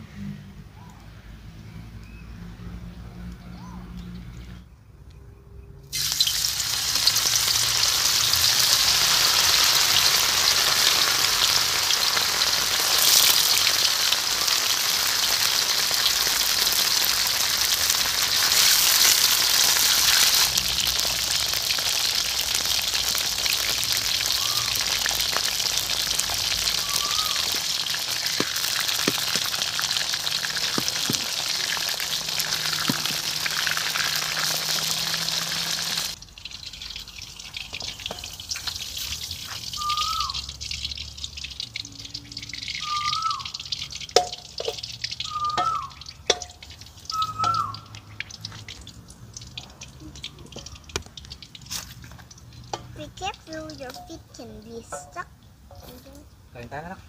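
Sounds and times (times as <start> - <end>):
meat sizzling in oil: 5.9 - 56.0
oil popping: 5.9 - 56.3.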